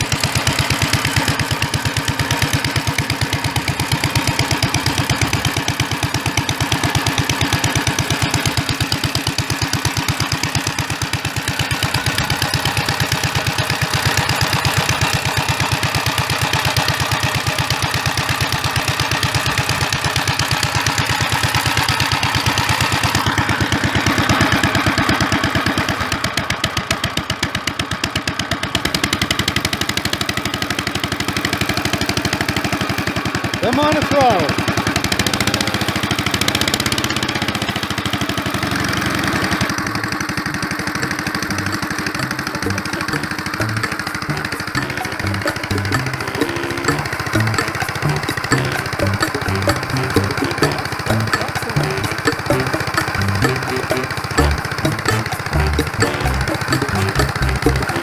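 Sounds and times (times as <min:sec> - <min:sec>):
tractor engine popping exhaust: 0:00.0 - 0:58.0.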